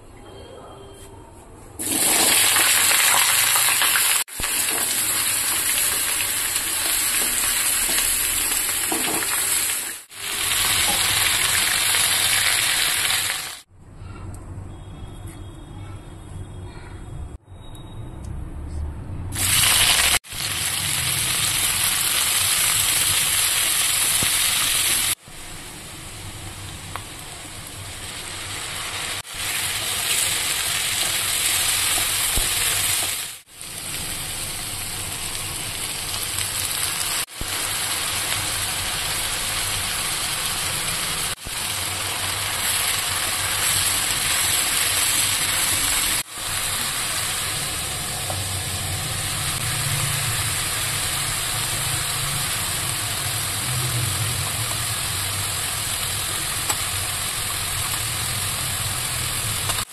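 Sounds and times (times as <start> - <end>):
onions sizzling in oil: 1.8 - 13.7, 19.4 - 59.9.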